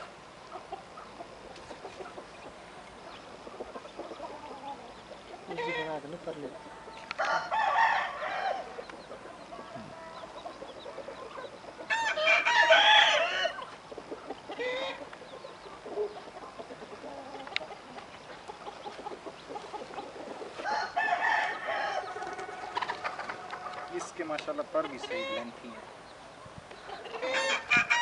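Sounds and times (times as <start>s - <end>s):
roosters crowing: 0.0s - 28.0s.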